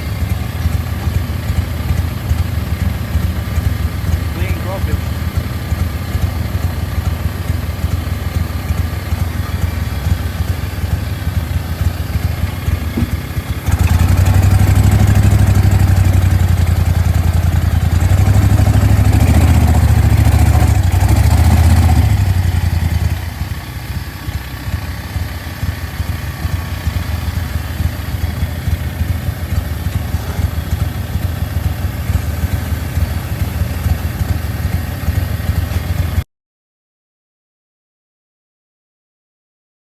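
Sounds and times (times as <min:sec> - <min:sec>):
engine running: 0:00.0 - 0:36.2.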